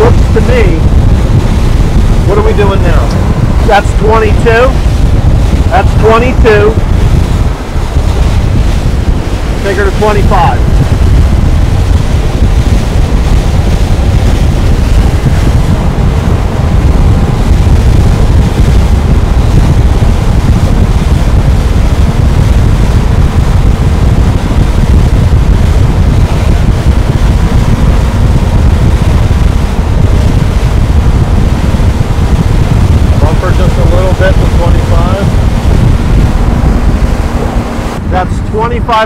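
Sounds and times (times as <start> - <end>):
faint boat engine hum: 0.0 - 39.0
rushing water: 0.0 - 39.0
wind rumbling on microphone: 0.0 - 39.0.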